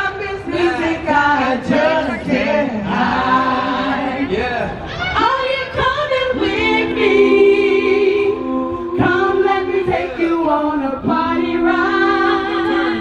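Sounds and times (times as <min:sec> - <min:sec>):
a cappella group singing harmony: 0:00.0 - 0:13.0
lead vocal line: 0:00.0 - 0:13.0.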